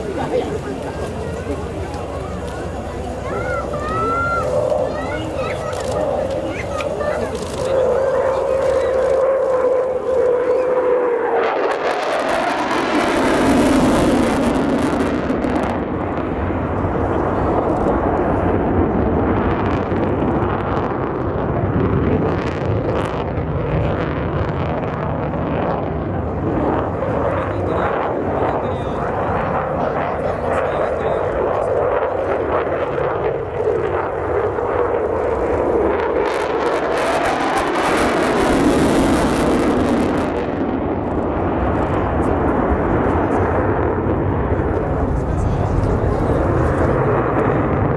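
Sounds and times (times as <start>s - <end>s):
jet engine rumble: 0.0s - 47.9s.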